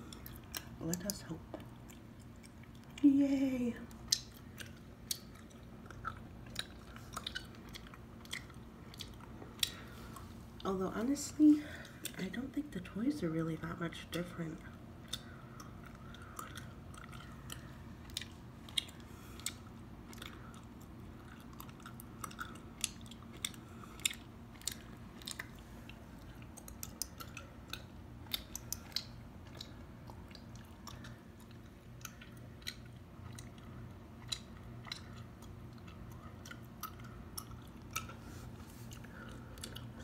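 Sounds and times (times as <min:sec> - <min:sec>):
gum chewing clicks and smacks: 0:00.0 - 0:03.1, 0:03.8 - 0:40.0.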